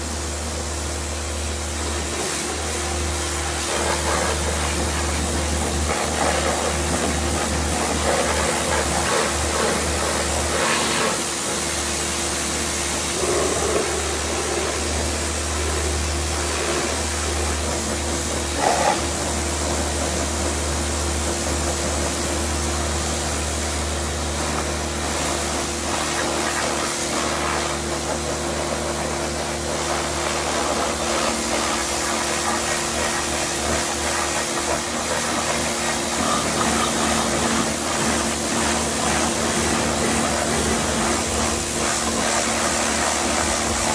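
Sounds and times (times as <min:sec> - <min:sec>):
pressure washer pump humming: 0:00.0 - 0:43.9
water jet spraying: 0:00.0 - 0:43.9.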